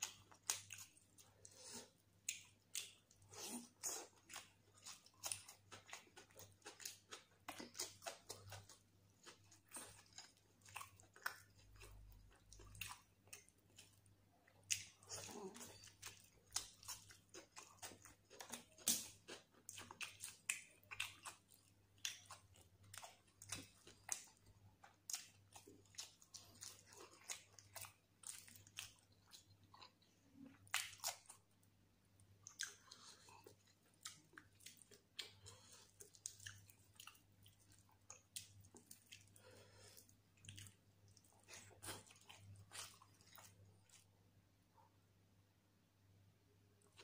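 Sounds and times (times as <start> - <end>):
person chewing and biting: 0.0 - 31.5, 32.4 - 44.1.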